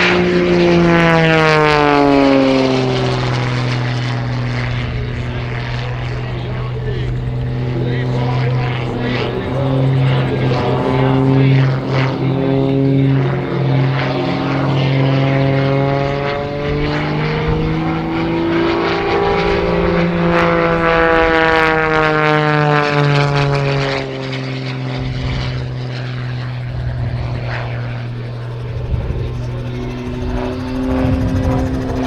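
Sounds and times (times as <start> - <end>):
propeller plane engine: 0.0 - 32.0.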